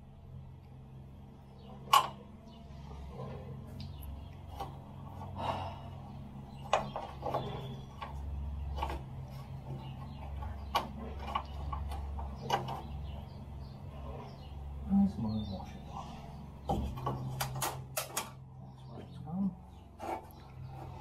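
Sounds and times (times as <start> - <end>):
excavator engine drone: 0.0 - 21.0.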